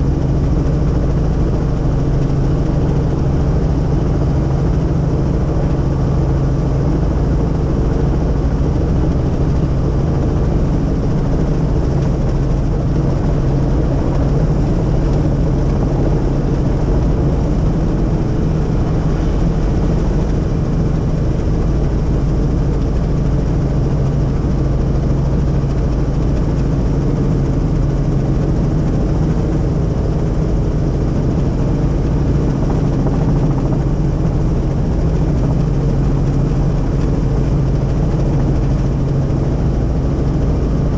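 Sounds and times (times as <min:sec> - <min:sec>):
helicopter cabin drone: 0:00.0 - 0:40.9.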